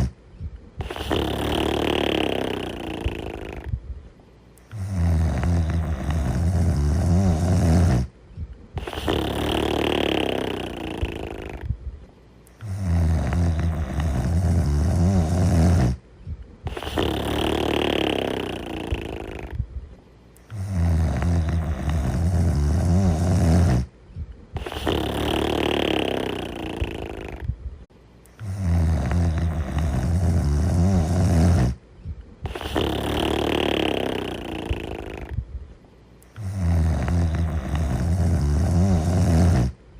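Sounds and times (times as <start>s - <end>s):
loud snoring: 0.8s - 3.8s, 4.6s - 8.2s, 8.8s - 11.7s, 12.5s - 16.0s, 16.6s - 19.6s, 20.4s - 23.9s, 24.6s - 27.5s, 28.4s - 31.8s, 32.4s - 35.4s, 36.2s - 39.8s.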